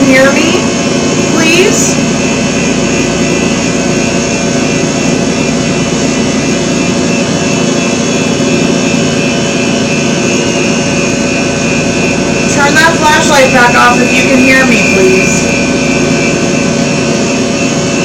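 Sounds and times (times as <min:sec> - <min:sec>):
faint steady tones: 0:00.0 - 0:18.0
loud hiss and hum: 0:00.0 - 0:18.0.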